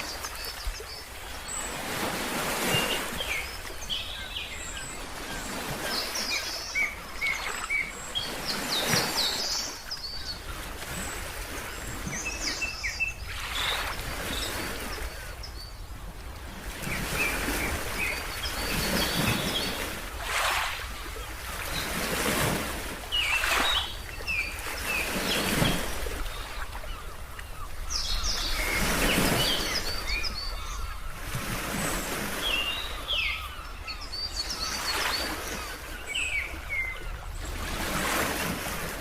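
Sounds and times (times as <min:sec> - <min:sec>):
birds chirping: 0:00.0 - 0:16.0, 0:16.6 - 0:38.6.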